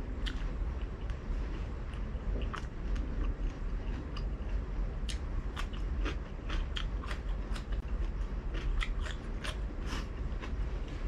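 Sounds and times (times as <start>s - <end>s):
low steady hum: 0.0s - 11.0s
crunchy chewing: 0.2s - 11.0s.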